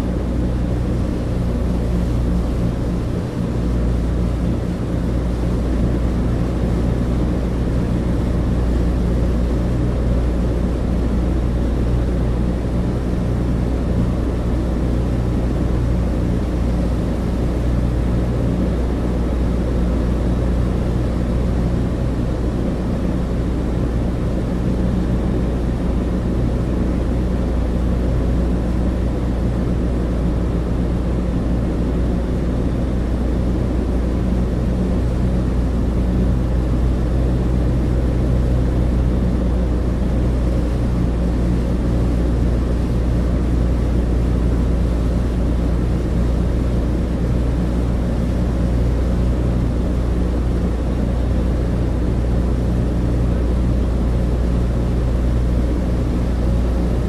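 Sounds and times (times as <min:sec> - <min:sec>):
propeller engines droning: 0:00.0 - 0:57.0.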